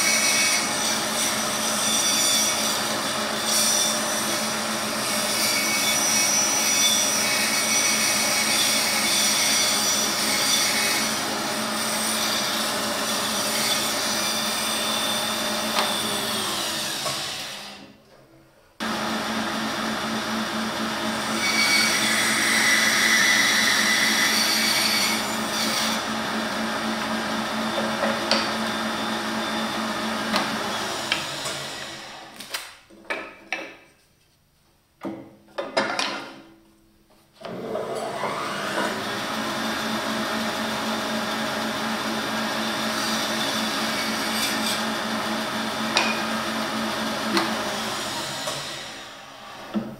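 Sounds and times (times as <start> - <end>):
bandsaw cutting wood: 0.0 - 17.9, 18.8 - 32.4, 37.4 - 49.9.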